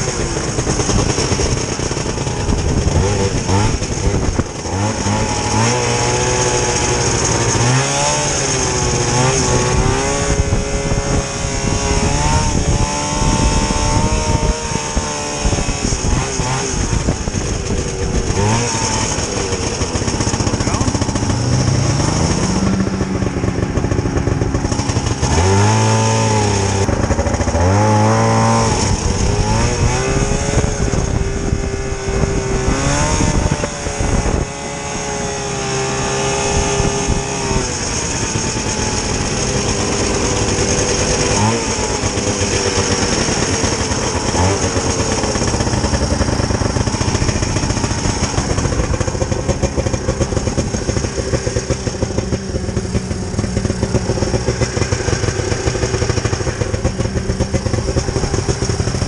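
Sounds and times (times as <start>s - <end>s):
two-stroke snowmobile engine revving: 0.0s - 59.0s.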